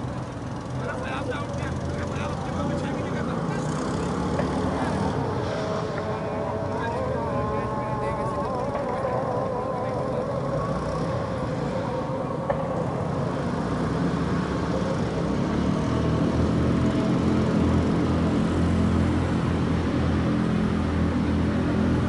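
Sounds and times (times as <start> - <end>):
background noise: 0.0 - 22.0
low motor hum: 0.0 - 22.0.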